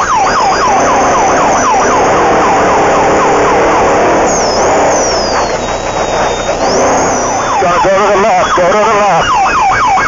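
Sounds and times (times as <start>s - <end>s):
loud engine noise: 0.0s - 9.1s
siren yelp: 0.0s - 10.0s.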